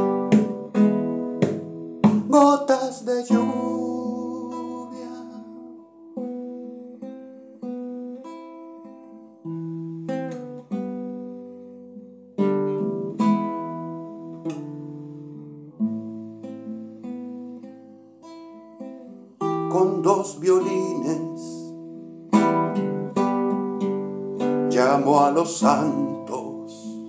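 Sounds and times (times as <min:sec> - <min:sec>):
classical guitar playing: 0:00.0 - 0:27.0.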